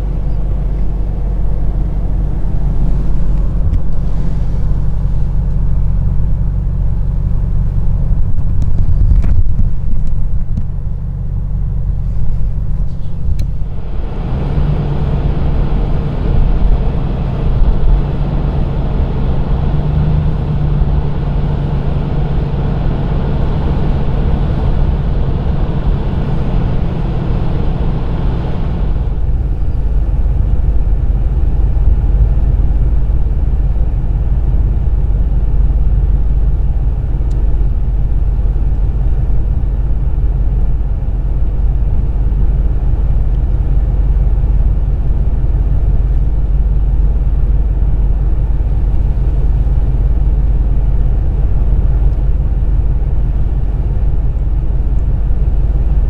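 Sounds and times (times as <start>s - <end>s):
vehicle rumble with low hum: 0.0s - 56.0s.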